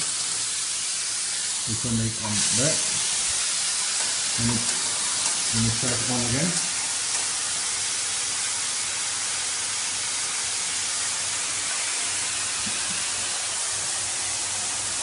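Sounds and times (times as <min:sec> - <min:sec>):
espresso steam wand hissing: 0:00.0 - 0:15.0.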